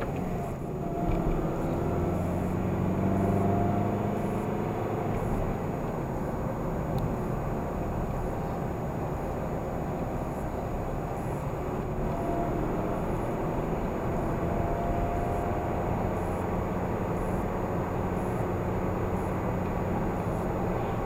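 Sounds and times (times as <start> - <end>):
car road and engine noise: 0.0 - 21.0
faint whine: 0.0 - 21.0.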